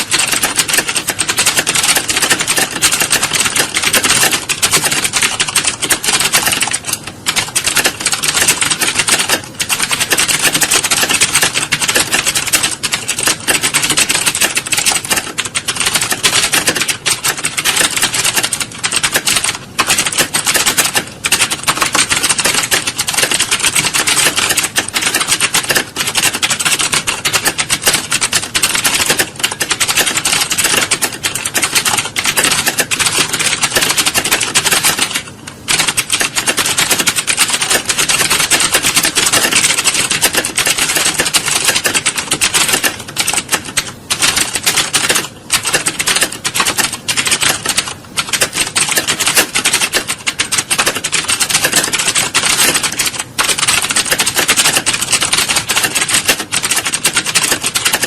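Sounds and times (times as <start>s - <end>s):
fast typing on computer keyboard: 0.0s - 58.0s.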